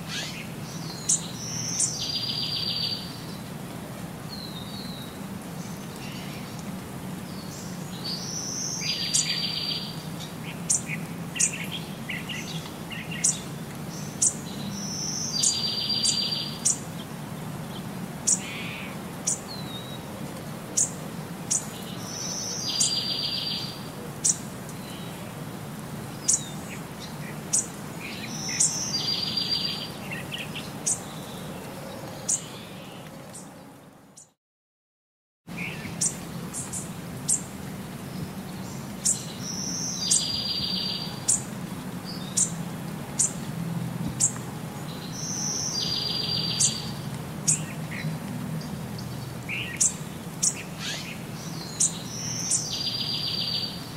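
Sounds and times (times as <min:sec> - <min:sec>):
birds chirping: 0:00.0 - 0:03.5, 0:07.2 - 0:20.0, 0:20.7 - 0:25.3, 0:26.1 - 0:34.4, 0:35.5 - 0:43.5, 0:44.1 - 0:53.9.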